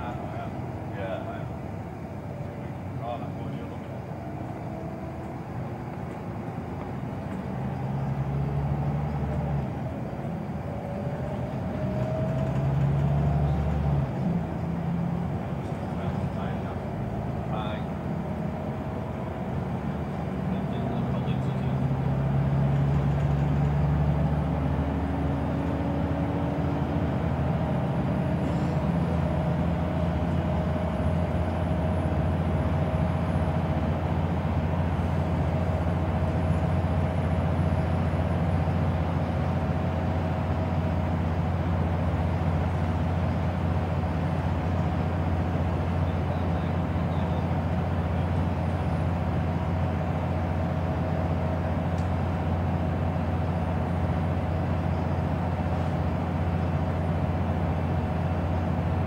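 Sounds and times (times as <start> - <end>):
bus engine drone: 0.0 - 59.0
road and tyre noise: 0.0 - 59.0.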